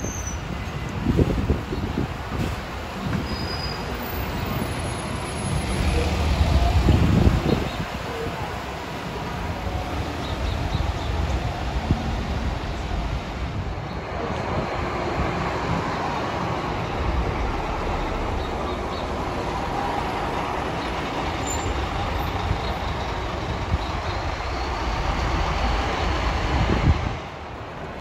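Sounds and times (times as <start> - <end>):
bus engine pulling away: 0.0 - 28.0.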